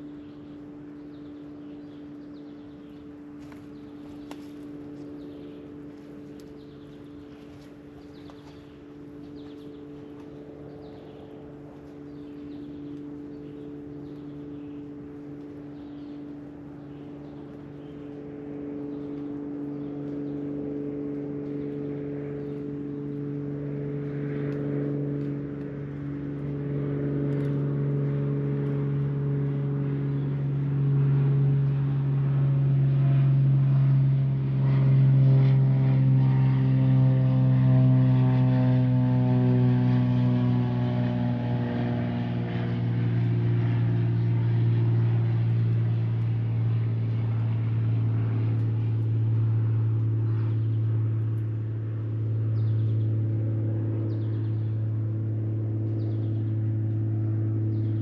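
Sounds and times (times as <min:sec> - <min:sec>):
distant engine droning: 0:00.0 - 0:58.0.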